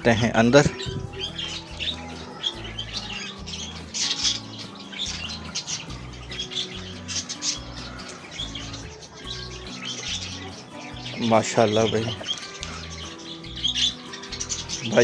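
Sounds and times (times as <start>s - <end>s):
background music with bass line: 0.0s - 15.0s
birds chirping: 0.0s - 15.0s.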